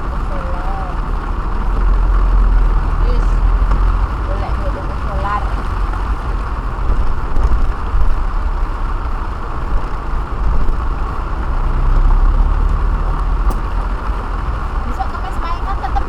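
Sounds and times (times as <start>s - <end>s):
low hum: 0.0s - 16.0s
rain hissing: 0.0s - 16.0s
road and engine rumble: 0.0s - 16.0s.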